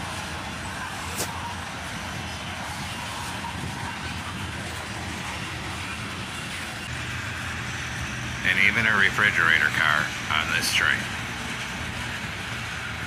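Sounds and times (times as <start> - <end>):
freight train wheels rumbling on track: 0.0 - 13.0.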